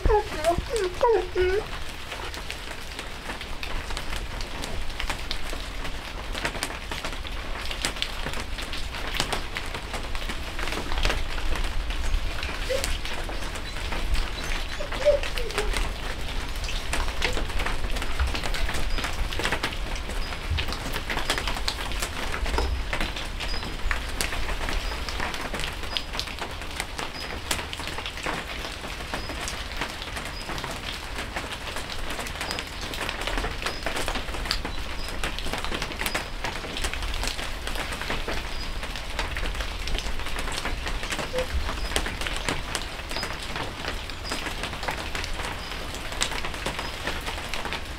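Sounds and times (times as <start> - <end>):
rain drops pattering: 0.0 - 47.9.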